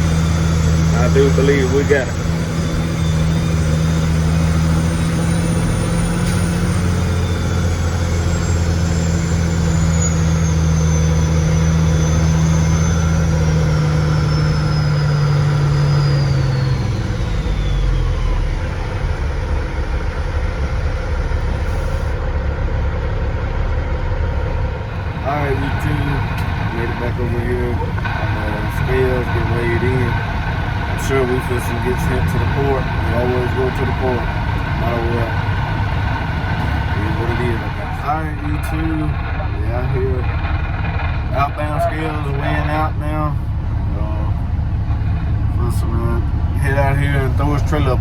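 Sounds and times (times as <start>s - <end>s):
truck diesel engine pulling: 0.0s - 48.0s.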